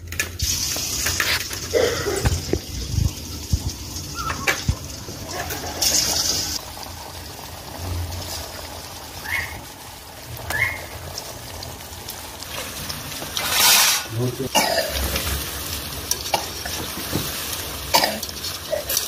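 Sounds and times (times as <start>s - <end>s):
chicken frying in hot oil: 0.0s - 19.0s.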